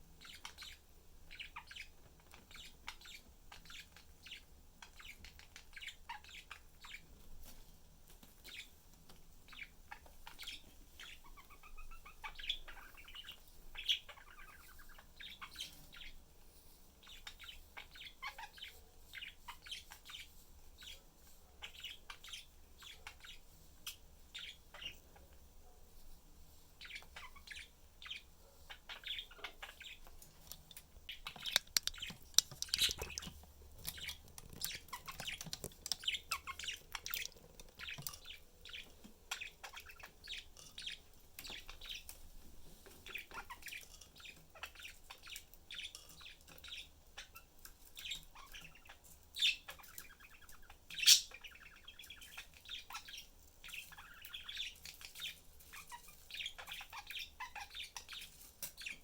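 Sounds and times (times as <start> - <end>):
budgerigars chirping: 0.2 - 7.1, 8.3 - 8.7, 9.5 - 16.2, 17.0 - 21.0, 21.6 - 25.2, 26.8 - 42.1, 42.9 - 59.0.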